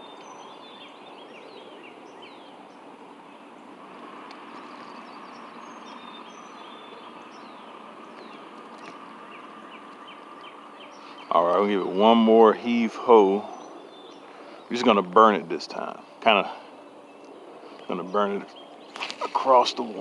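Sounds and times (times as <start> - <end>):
birds chirping and whistling: 0.0 - 20.0
steady rushing background noise: 0.0 - 20.0.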